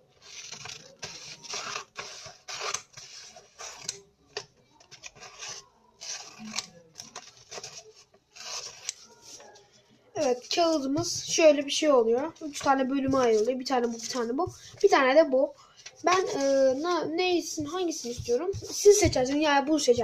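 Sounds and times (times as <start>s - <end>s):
paper rasping strokes: 0.1s - 4.0s, 4.9s - 9.6s, 10.2s - 14.9s, 16.1s - 19.2s.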